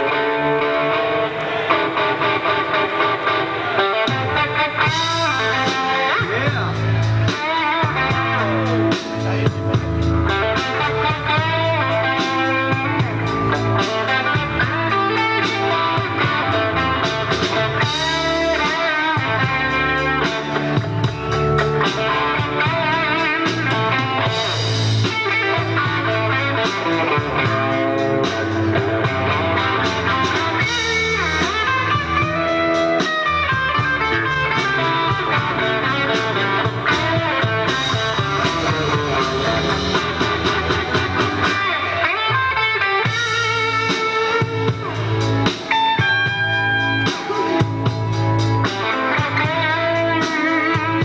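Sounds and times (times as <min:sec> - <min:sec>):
drum kit: 0:00.0 - 0:51.0
electric guitar: 0:00.0 - 0:51.0
keyboards: 0:00.0 - 0:51.0.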